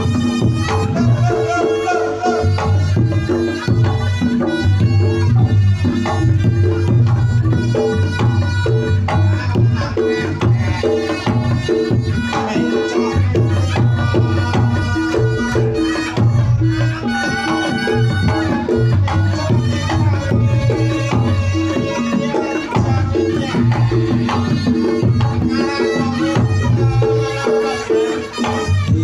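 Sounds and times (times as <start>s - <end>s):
drums and gong-chime rhythm: 0.0s - 29.0s.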